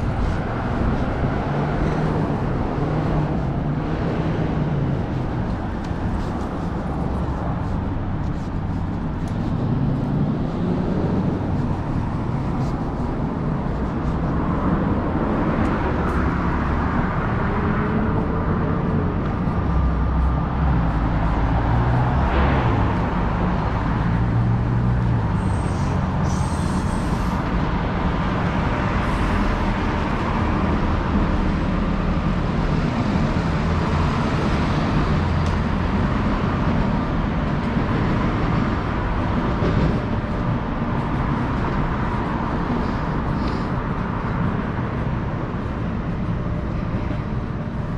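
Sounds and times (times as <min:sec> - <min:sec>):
road traffic rumble: 0:00.0 - 0:47.9.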